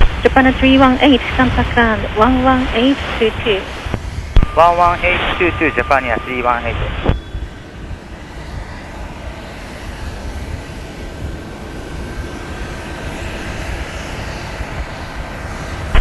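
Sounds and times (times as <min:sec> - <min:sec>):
jet airliner engines roaring: 0:00.0 - 0:16.0.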